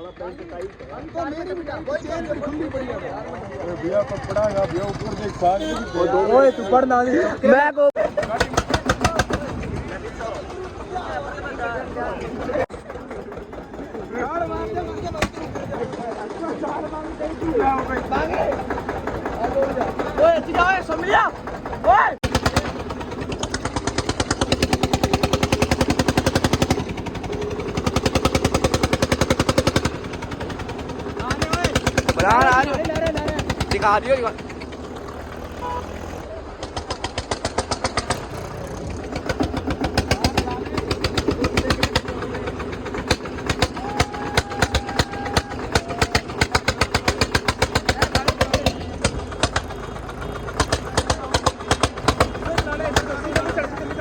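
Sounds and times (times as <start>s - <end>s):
tractor diesel engine popping: 0.0s - 6.7s, 7.3s - 54.0s.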